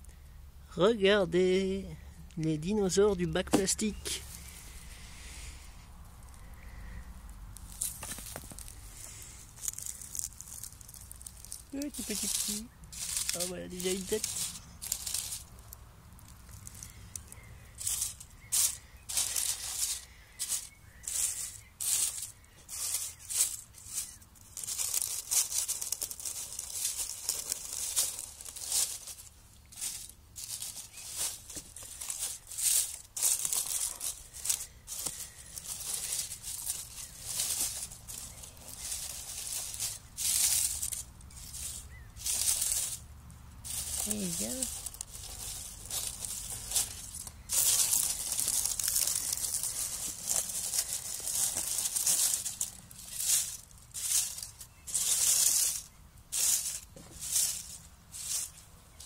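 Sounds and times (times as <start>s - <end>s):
dry leaves rustling and crackling: 2.0s - 59.0s.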